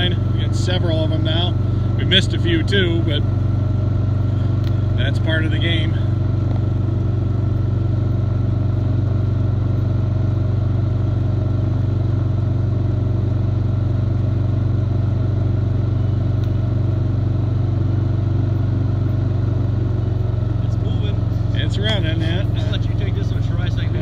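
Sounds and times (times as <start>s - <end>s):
atv engine droning: 0.0s - 24.0s.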